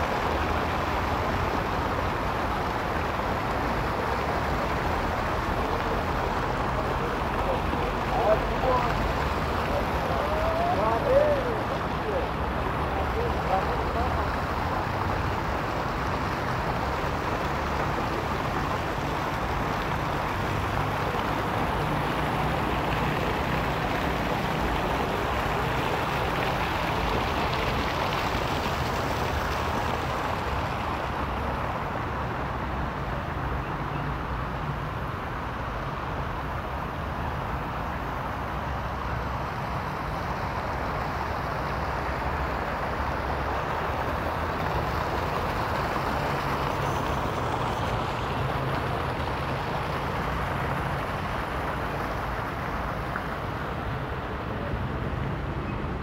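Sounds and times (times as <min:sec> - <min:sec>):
city traffic rumble: 0:00.0 - 0:56.0
fountain water splashing: 0:00.0 - 0:56.0.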